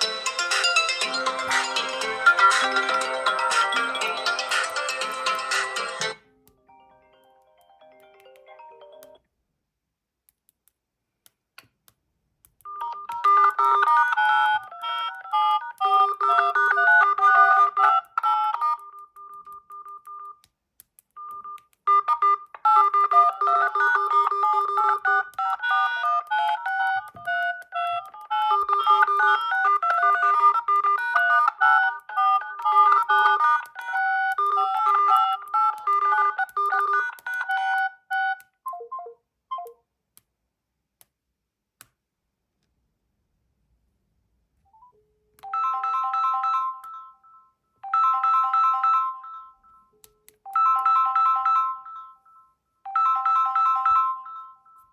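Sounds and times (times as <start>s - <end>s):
phone ringtone melody: 0.0s - 9.2s, 12.7s - 20.4s, 21.2s - 39.8s, 44.8s - 54.9s.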